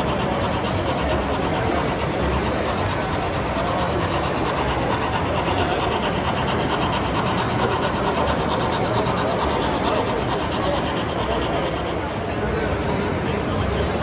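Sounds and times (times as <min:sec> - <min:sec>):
model steam locomotive chuffing: 0:00.0 - 0:14.0.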